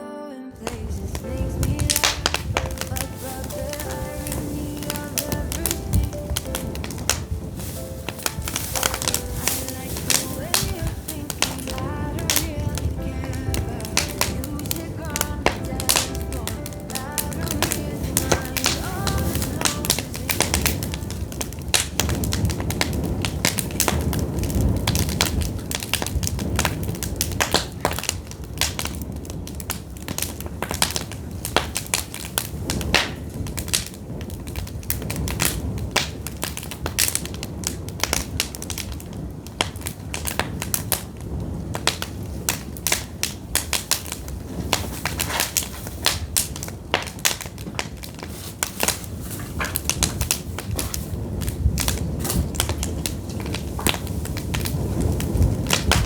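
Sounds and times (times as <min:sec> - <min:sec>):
firewood crackling and popping: 0:00.6 - 0:56.0.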